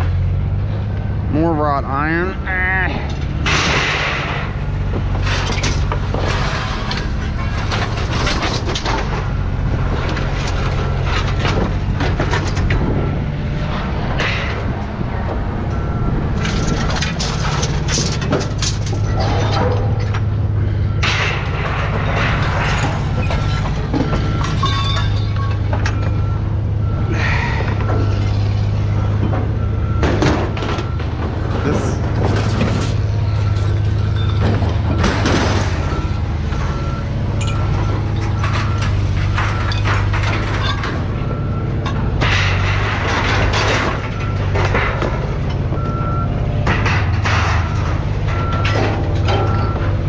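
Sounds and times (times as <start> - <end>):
low engine hum: 0.0 - 50.0
scrap metal clanging and crashing: 3.0 - 15.2, 15.8 - 50.0.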